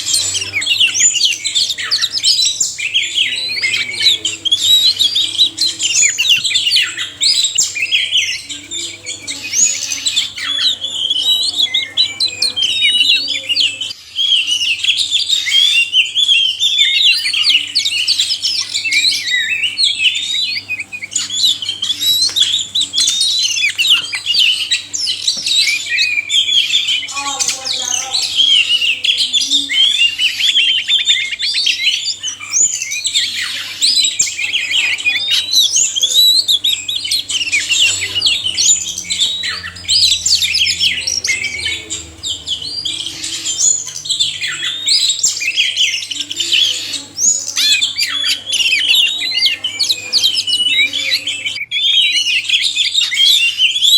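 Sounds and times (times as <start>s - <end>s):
birds singing whistles and trills: 0.0s - 53.9s.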